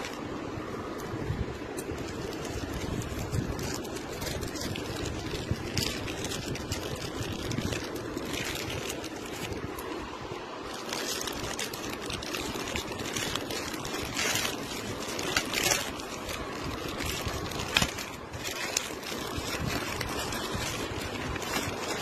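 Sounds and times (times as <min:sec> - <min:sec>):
plastic bag rustling: 0:00.0 - 0:22.0.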